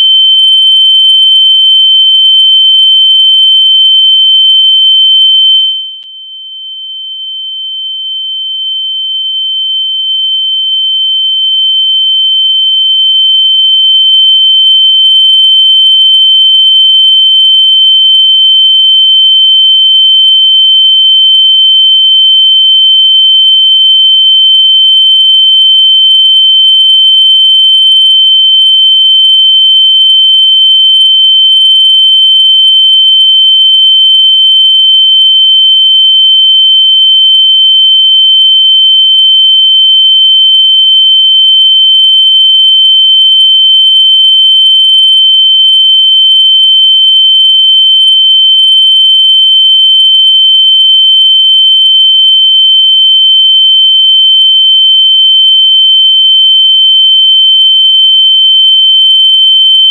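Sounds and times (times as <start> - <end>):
loud electronic sine tone: 0.0 - 59.9.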